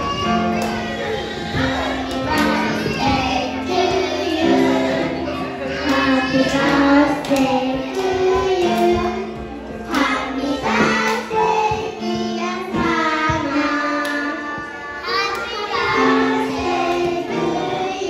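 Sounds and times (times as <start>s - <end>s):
children singing: 0.0s - 18.0s
music: 0.0s - 18.0s.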